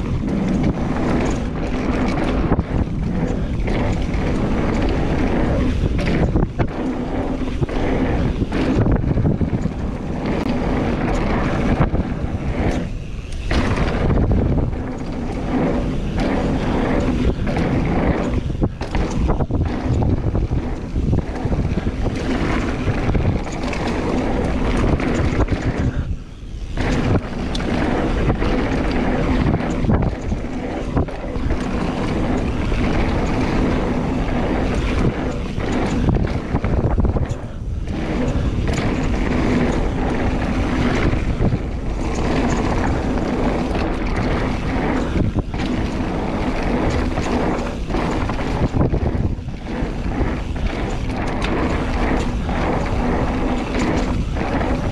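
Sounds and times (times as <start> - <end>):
bike tyres rolling on dirt: 0.0 - 54.9
wind on microphone: 0.0 - 54.9.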